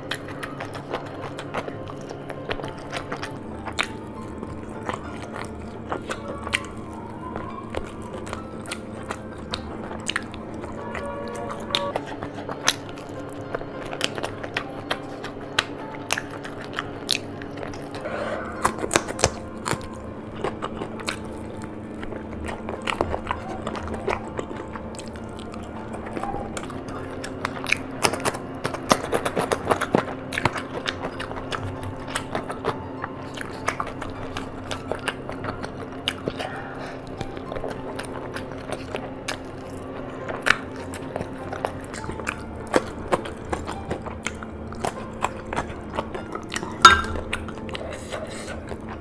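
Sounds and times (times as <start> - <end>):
biting and chewing food: 0.0 - 49.0.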